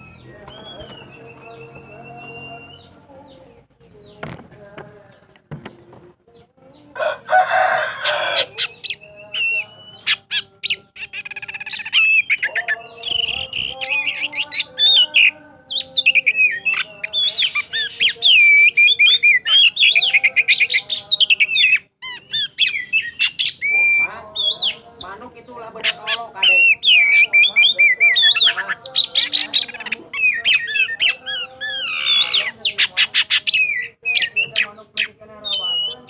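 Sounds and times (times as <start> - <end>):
bird singing trills and whistles: 0.0 - 3.4, 8.1 - 36.0.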